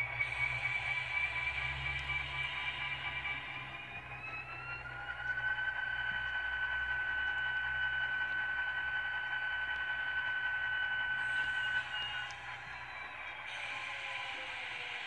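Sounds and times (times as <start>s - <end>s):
low hum: 0.0s - 14.9s
high steady whine: 0.0s - 15.0s.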